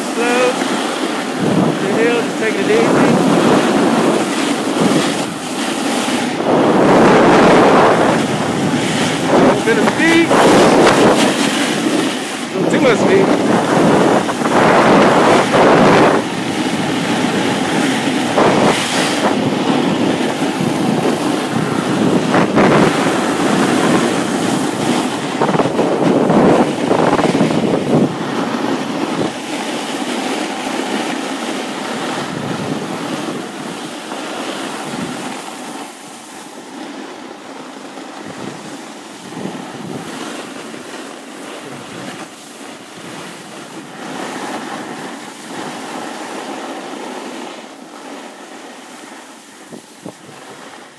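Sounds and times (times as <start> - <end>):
snowboard sliding over snow: 0.0 - 50.9
wind buffeting microphone: 0.0 - 50.9.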